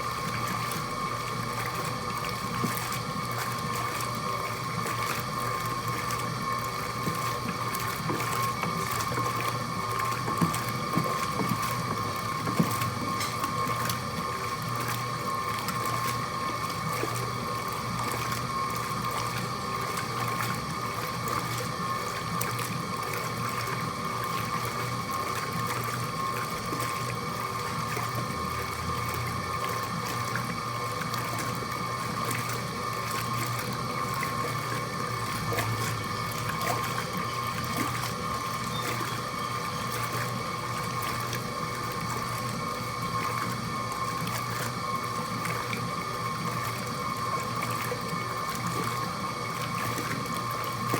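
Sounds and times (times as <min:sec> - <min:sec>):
motor hum: 0:00.0 - 0:50.9
water churning in washing machine: 0:00.0 - 0:50.9.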